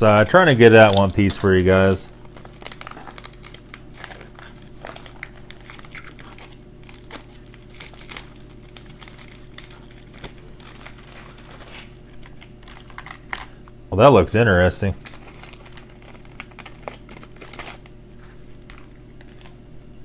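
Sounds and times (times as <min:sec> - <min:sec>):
food packet crinkling: 0:00.2 - 0:13.8, 0:15.0 - 0:20.0.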